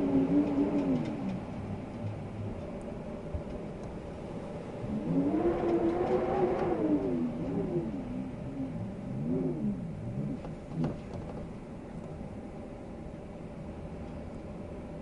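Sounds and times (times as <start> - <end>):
gusting wind whistling: 0.0 - 15.0.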